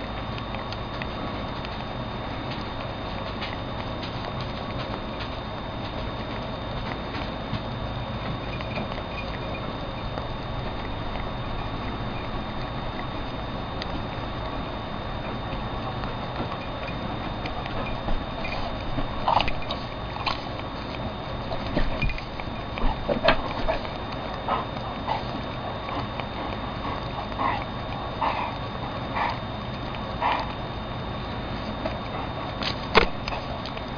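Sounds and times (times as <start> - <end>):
cat licking and biting lollipop: 0.0 - 33.9.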